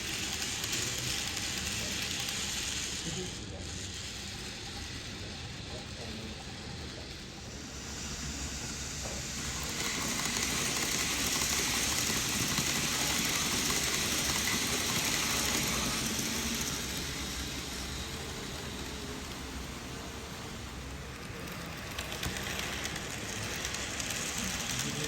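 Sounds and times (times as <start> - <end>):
model train rolling on track: 0.0 - 25.0
thin steady whine: 0.0 - 25.0.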